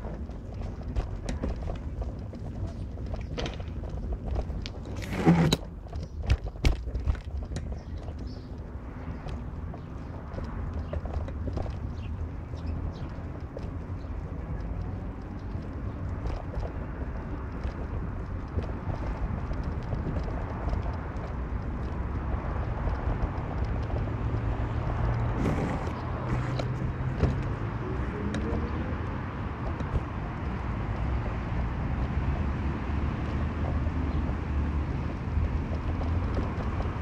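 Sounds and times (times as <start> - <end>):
road rumble: 0.0 - 37.0.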